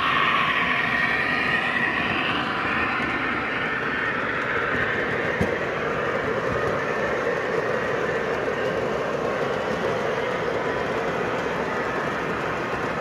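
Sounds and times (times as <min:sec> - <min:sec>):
model locomotive hum: 0:00.0 - 0:13.0.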